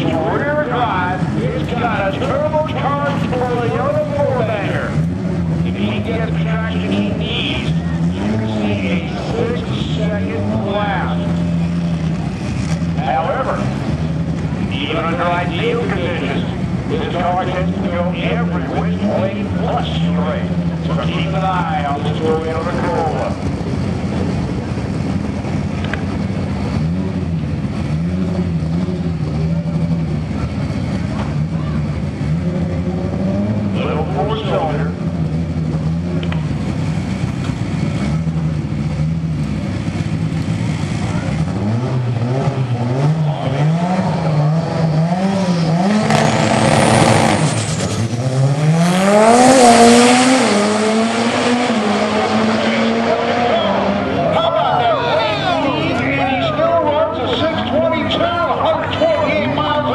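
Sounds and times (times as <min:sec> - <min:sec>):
race car engine idling: 0:00.0 - 0:49.7, 0:50.4 - 0:59.9.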